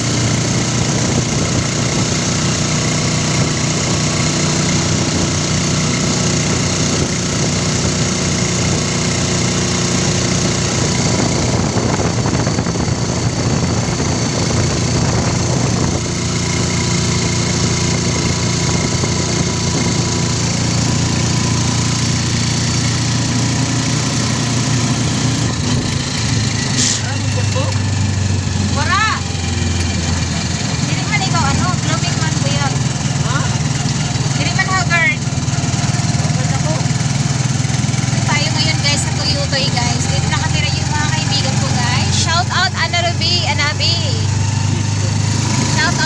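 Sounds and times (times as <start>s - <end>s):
motorcycle engine running: 0.0s - 46.0s
road noise: 0.0s - 46.0s.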